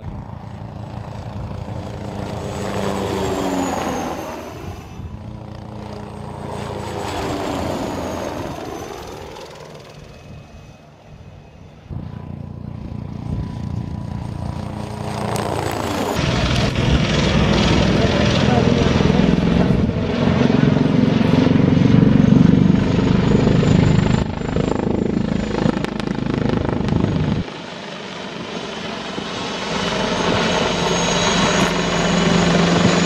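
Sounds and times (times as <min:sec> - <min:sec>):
helicopters flying past: 0:00.0 - 0:33.0.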